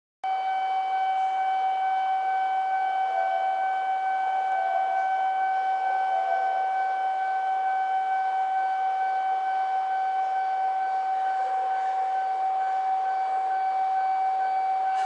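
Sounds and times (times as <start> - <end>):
high-pitched electronic tone: 0.6 - 15.0.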